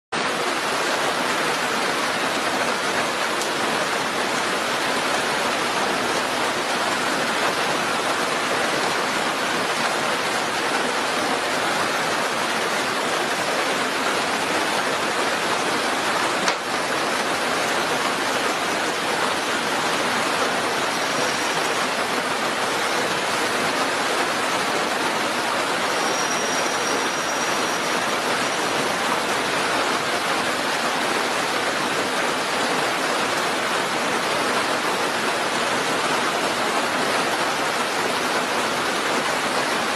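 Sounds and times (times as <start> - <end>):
heavy rain: 0.1 - 39.9.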